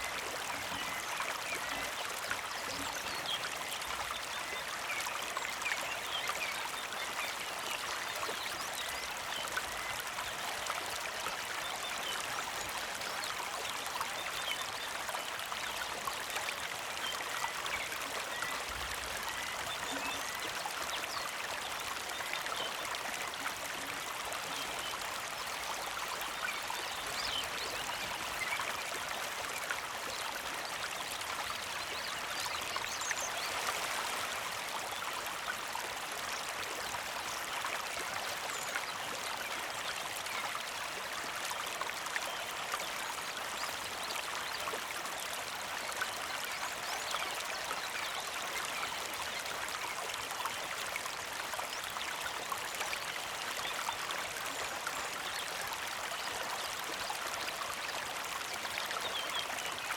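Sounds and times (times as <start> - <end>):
creek flowing and trickling: 0.0 - 59.9.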